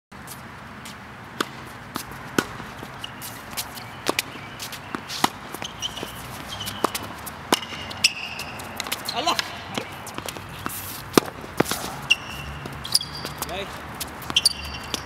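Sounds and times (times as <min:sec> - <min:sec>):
players' footsteps: 0:00.2 - 0:15.0
rackets striking tennis balls: 0:00.9 - 0:15.0
balls bouncing on court: 0:01.4 - 0:15.0.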